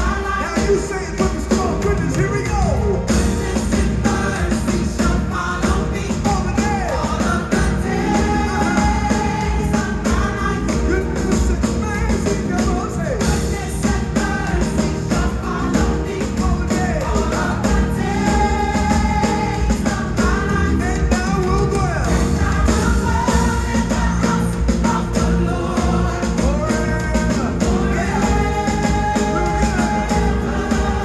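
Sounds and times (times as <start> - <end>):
band playing: 0.0 - 31.0
gospel singing: 0.0 - 31.0.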